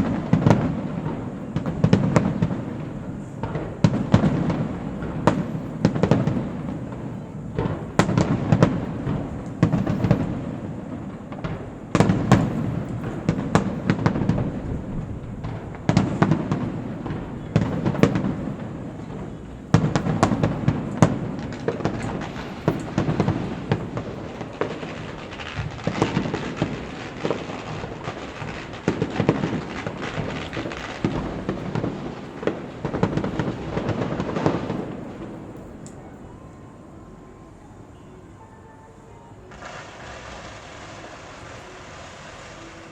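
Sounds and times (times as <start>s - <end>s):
fireworks bursting: 0.0s - 38.1s, 39.4s - 42.9s
fireworks crackling: 0.0s - 38.5s, 39.4s - 42.9s.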